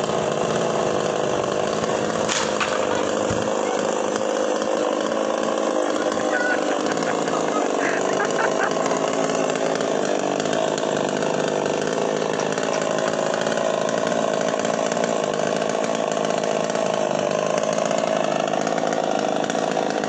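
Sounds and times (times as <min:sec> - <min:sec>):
chainsaw cutting tree trunk: 0:00.0 - 0:20.0.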